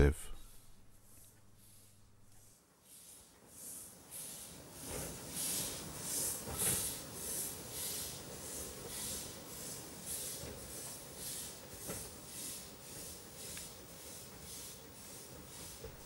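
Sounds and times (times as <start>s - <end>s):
steam locomotive chuffing: 2.9s - 16.0s.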